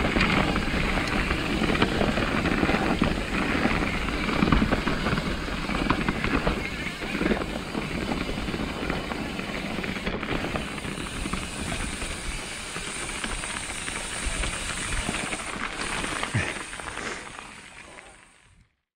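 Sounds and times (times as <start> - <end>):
wind noise on microphone: 0.0 - 15.6
bike rattles and clicks: 0.0 - 18.8.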